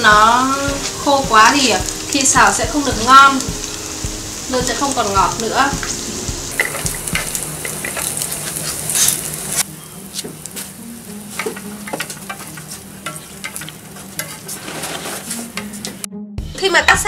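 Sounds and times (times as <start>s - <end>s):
fish frying in hot oil: 0.0s - 15.9s.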